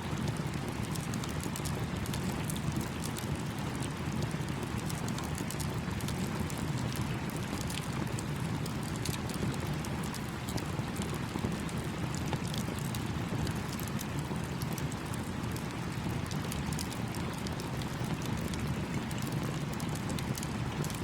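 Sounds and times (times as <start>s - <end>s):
campfire crackling: 0.1s - 21.0s.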